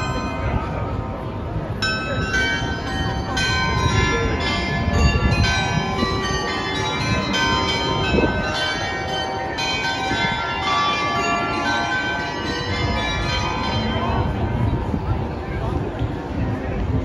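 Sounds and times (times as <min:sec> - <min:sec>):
church bells ringing: 0:00.0 - 0:15.8.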